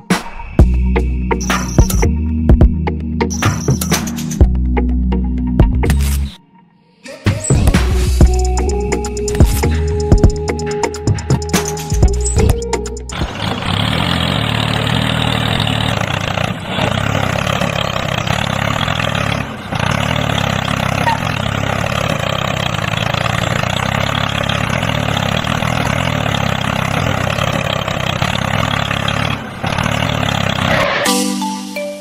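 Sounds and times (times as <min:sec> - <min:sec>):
tractor engine running: 0:00.6 - 0:05.9, 0:07.5 - 0:31.1.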